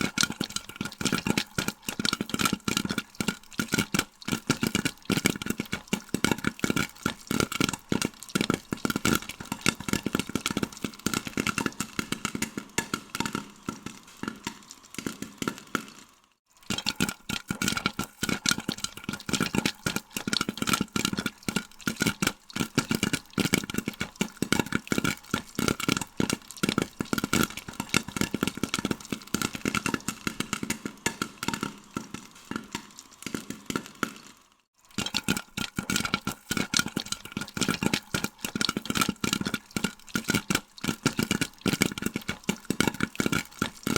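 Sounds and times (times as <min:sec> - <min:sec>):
popcorn popping: 0:00.0 - 0:43.9.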